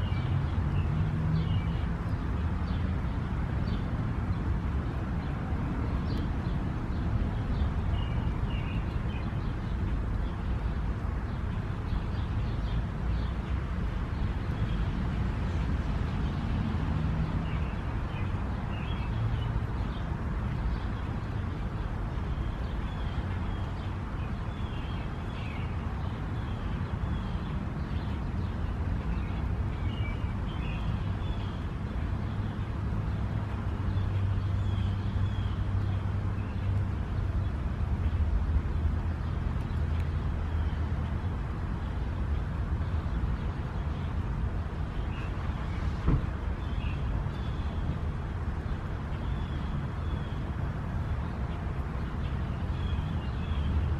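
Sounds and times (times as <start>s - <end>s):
outdoor background rumble: 0.0s - 53.9s.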